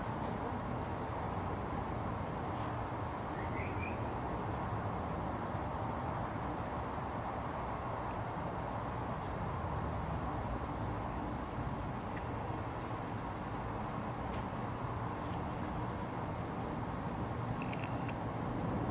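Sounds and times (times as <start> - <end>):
low background noise: 0.0 - 18.9.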